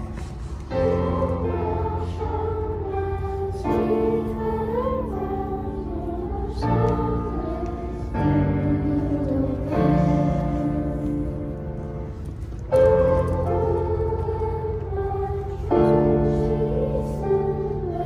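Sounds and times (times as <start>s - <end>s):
choir singing held chords: 0.0s - 18.0s
keyboard accompaniment: 0.0s - 18.0s.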